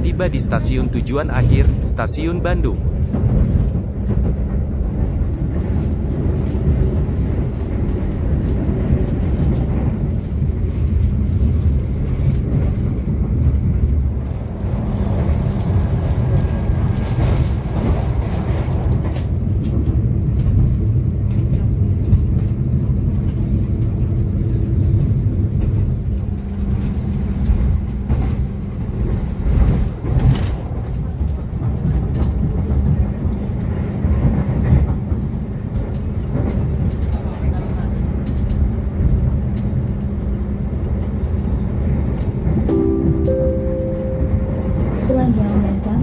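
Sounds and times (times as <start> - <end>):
train rumbling inside coach: 0.0 - 46.0.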